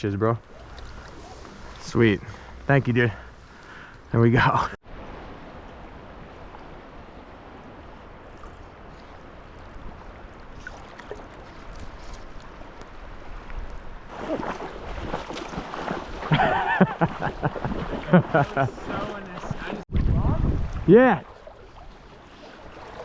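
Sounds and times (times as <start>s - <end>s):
river water flowing: 0.4s - 13.4s, 14.0s - 19.9s, 21.2s - 23.0s
water splashing and sloshing: 0.4s - 23.0s.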